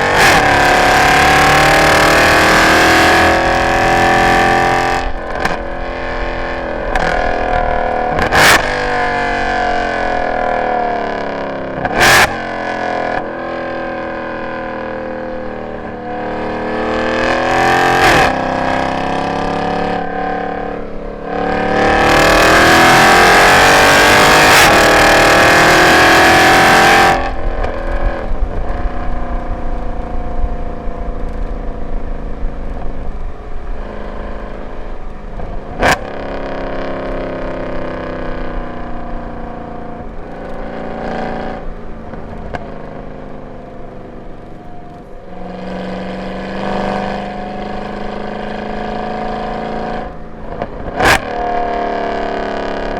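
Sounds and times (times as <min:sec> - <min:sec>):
car engine at full throttle: 0:00.0 - 0:52.9
engine off-throttle note: 0:00.0 - 0:52.9.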